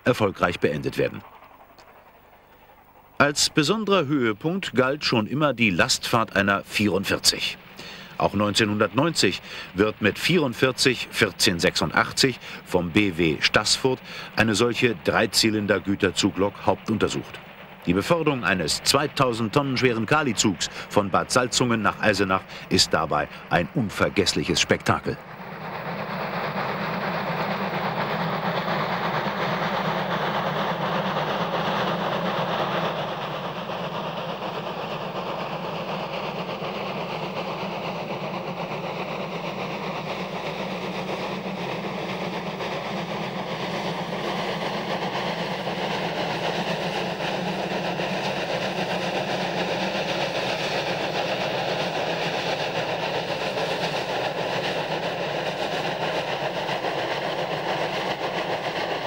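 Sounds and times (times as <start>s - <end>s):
steam locomotive exhaust rushing: 0.0s - 59.0s
train running noise: 0.0s - 59.0s.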